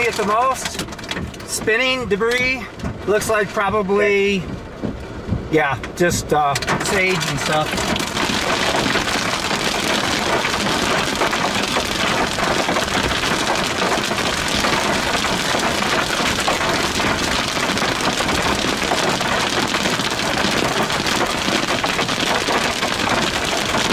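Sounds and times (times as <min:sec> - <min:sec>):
heavy rain on a vehicle: 0:00.0 - 0:23.9.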